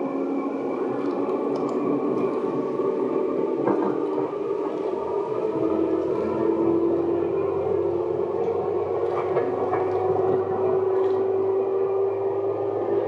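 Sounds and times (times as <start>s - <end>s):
electric train motor hum: 0.0s - 13.0s
train wheels rumbling on rail: 0.0s - 13.0s.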